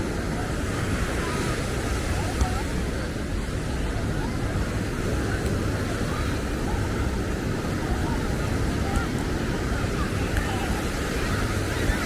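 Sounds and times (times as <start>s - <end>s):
faint distant voices: 0.0s - 12.0s.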